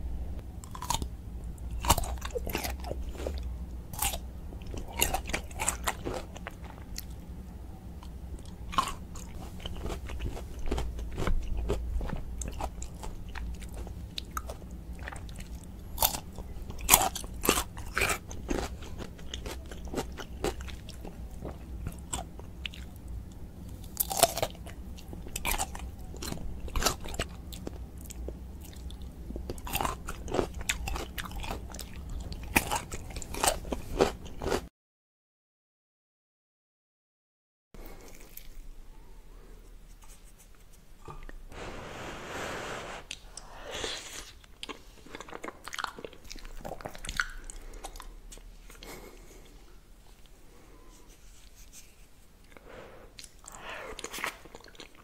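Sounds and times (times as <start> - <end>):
steady low hum: 0.0 - 34.4, 37.8 - 55.0
crunching and chewing pickles: 0.5 - 34.7, 37.8 - 38.8, 43.1 - 50.8, 53.2 - 55.0.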